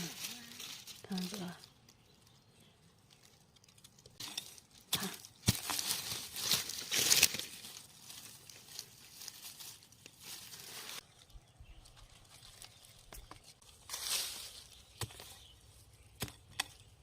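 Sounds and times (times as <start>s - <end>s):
dry leaves crackling and rustling: 0.0s - 15.8s.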